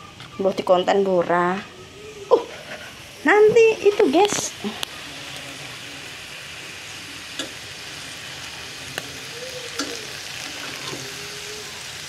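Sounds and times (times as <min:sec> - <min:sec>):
skewers sizzling on grill plate: 0:00.0 - 0:12.0.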